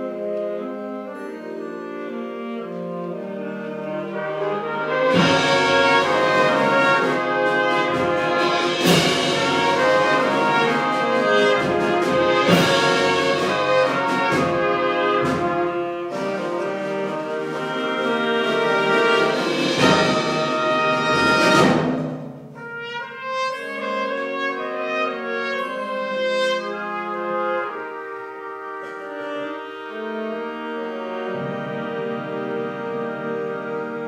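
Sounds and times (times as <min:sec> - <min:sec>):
concert band playing: 0:00.0 - 0:34.0.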